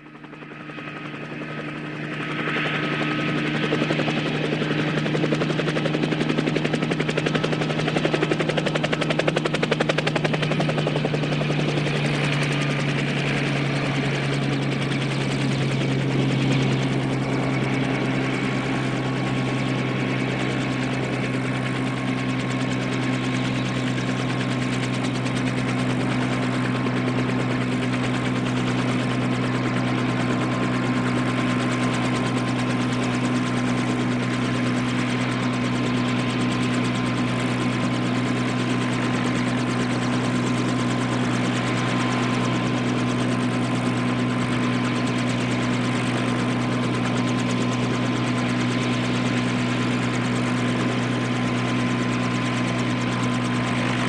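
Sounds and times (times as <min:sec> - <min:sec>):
helicopter rotor beat: 0:00.0 - 0:54.0.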